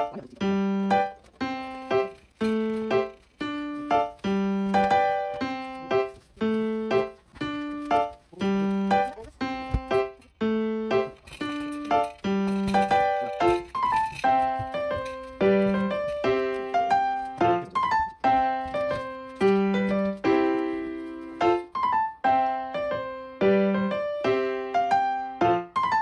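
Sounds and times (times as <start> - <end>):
bouncy keyboard tune: 0.0 - 26.0.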